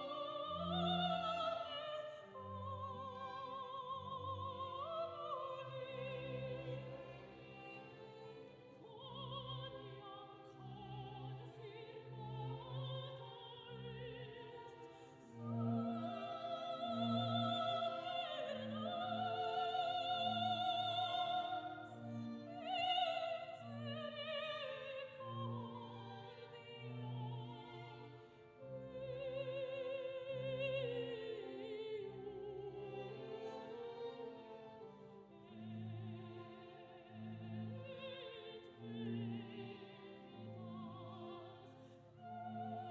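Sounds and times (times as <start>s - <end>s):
operatic singing with vibrato: 0.0s - 42.9s.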